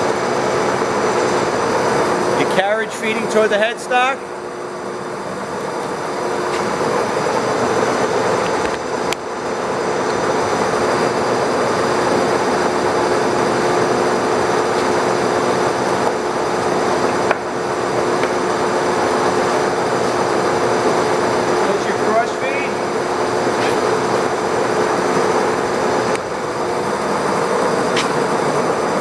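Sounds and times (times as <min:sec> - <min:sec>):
lathe running: 0:00.0 - 0:29.0.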